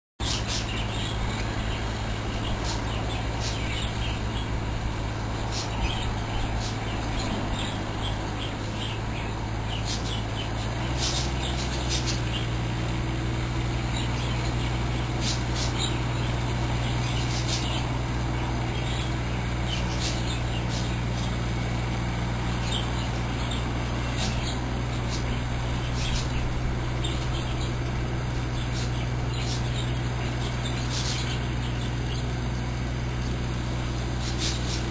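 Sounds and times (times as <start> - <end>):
small bird chirping: 0.2 - 34.9
vehicle engine hum: 0.2 - 34.9.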